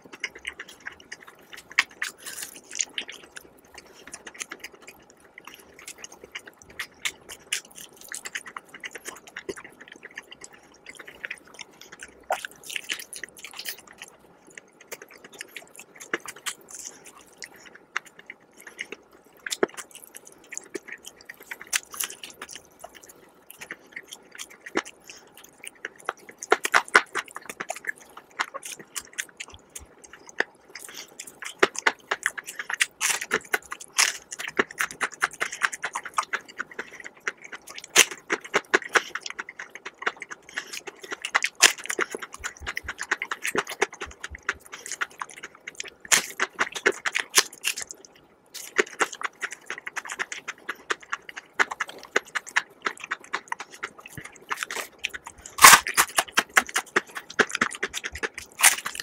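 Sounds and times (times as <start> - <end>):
crunching fried chicken: 0.0 - 59.0
wet mouth sounds: 0.0 - 59.0.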